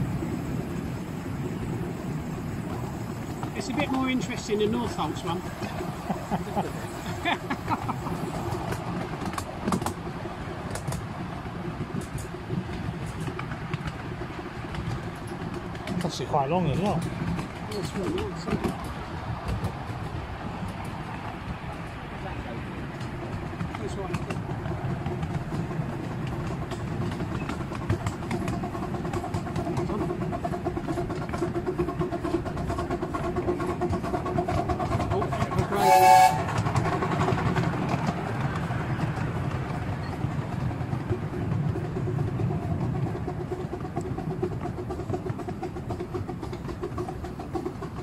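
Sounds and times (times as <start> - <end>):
light rail clicks: 0.0 - 48.0
train wheels rumbling on track: 0.0 - 48.0.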